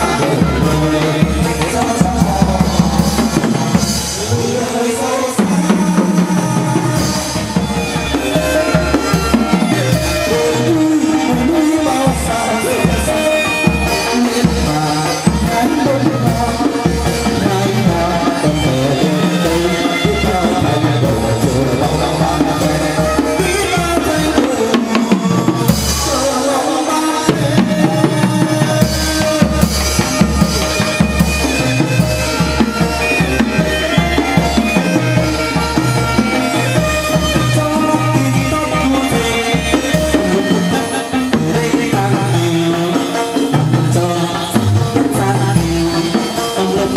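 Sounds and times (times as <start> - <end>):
drums beating steady rhythm: 0.0 - 46.9
melodic instruments: 0.0 - 46.9.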